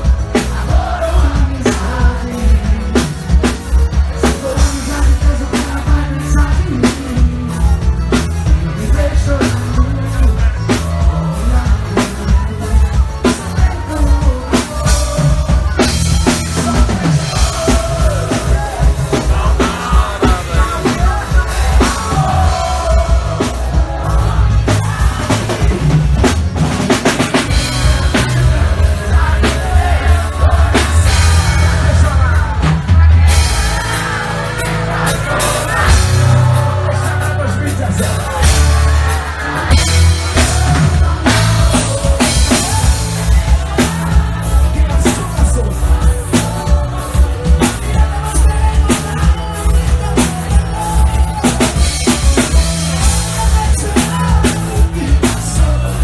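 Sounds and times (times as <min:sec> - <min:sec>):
drum kit beat: 0:00.0 - 0:56.0
heavy bass line: 0:00.0 - 0:56.0
live band playing: 0:00.0 - 0:56.0.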